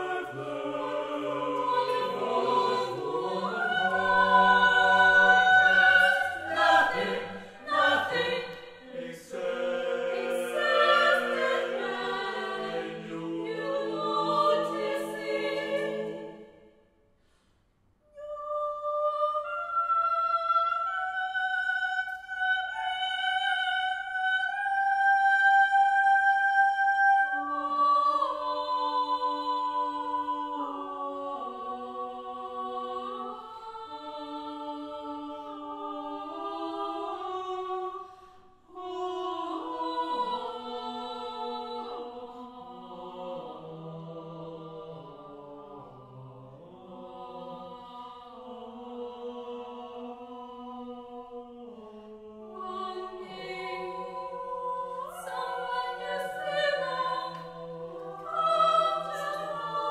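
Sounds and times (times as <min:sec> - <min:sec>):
choir singing sustained chords: 0:00.0 - 0:16.9, 0:18.1 - 0:59.9.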